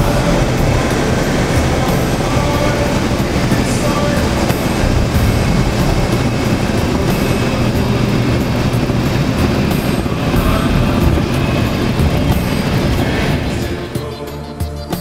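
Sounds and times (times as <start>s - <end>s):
propeller plane engine at taxi power: 0.0s - 15.0s.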